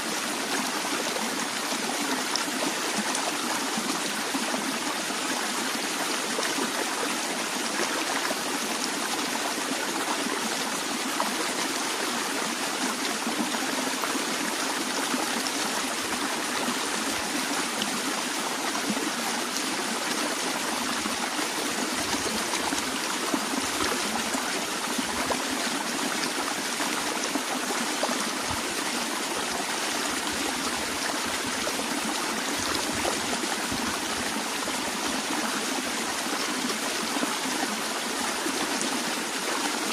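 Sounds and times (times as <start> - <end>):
stream water flowing and babbling: 0.0 - 39.9.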